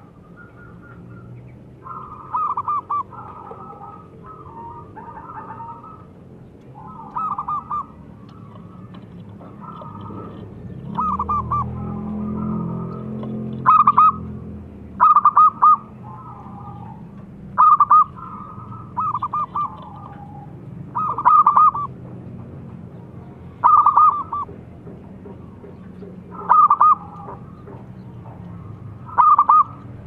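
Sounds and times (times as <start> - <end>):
low dove cooing: 0.0 - 14.4, 15.0 - 22.0, 23.2 - 24.6, 25.3 - 28.0, 29.0 - 30.0
dove trilling: 0.0 - 22.1, 22.9 - 30.0.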